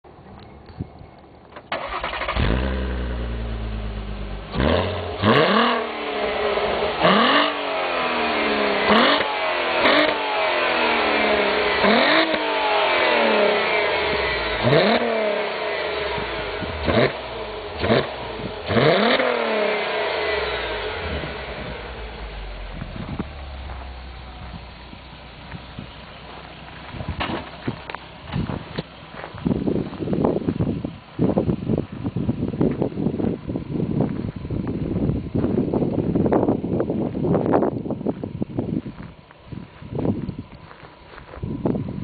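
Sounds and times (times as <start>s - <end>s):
car engine idling and revving: 1.4s - 42.0s.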